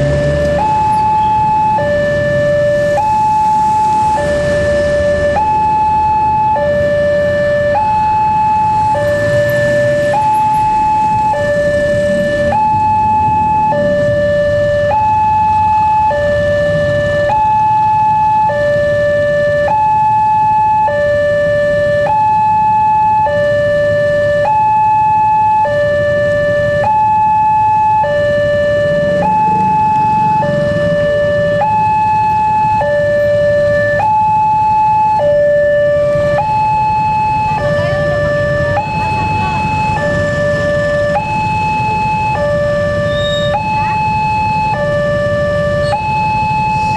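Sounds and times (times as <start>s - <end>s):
motorcycle engines running: 0.0s - 18.7s, 24.8s - 46.9s
two-tone crossing alarm: 0.0s - 46.9s.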